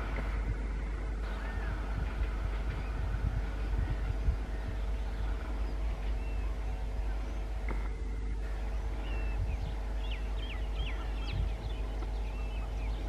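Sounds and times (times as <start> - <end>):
birds chirping: 0.0 - 13.0
faint hum: 0.0 - 13.0
train rumbling: 0.0 - 13.0.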